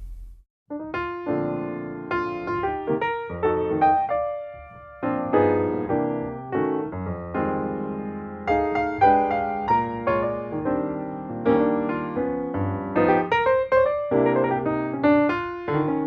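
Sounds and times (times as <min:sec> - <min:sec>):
piano music: 0:00.7 - 0:16.0.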